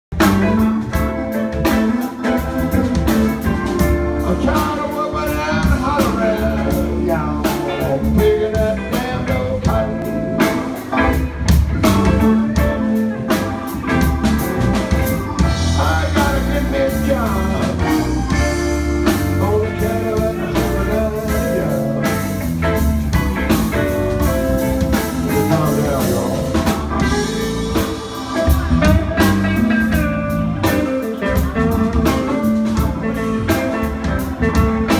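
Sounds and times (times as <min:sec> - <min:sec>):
blues band playing: 0:00.1 - 0:34.9.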